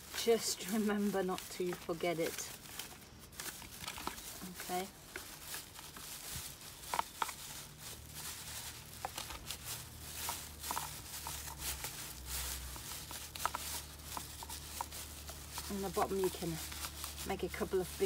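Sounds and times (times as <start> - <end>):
plastic bin bag rustling: 0.0 - 18.0.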